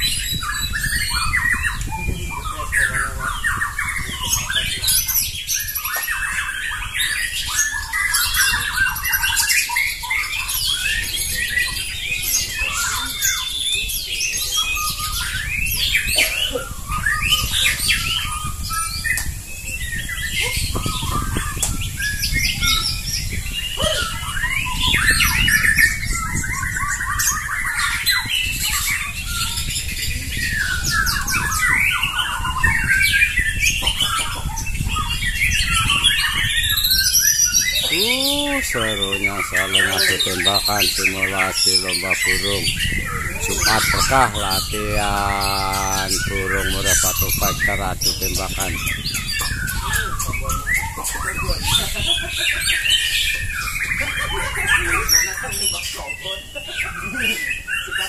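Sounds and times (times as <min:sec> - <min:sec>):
birds singing trills and whistles: 0:00.0 - 0:58.0.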